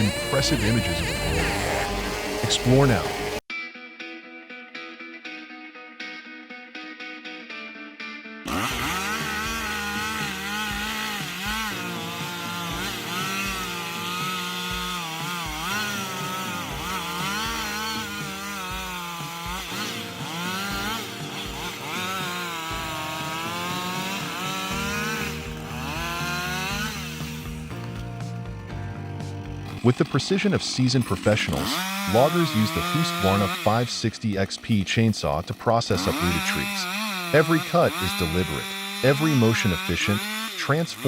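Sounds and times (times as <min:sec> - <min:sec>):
chainsaw cutting wood: 0:00.0 - 0:03.5, 0:08.5 - 0:41.0.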